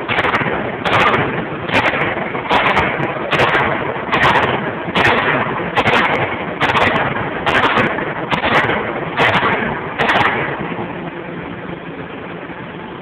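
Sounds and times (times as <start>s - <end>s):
machine running noise: 0.0s - 13.0s.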